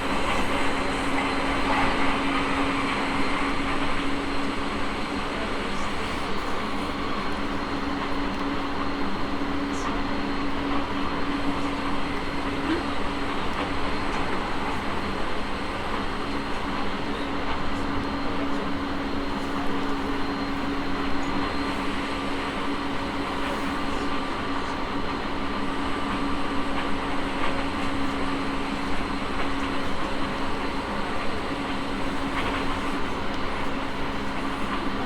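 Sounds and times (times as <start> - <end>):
electric train running: 0.0 - 35.0.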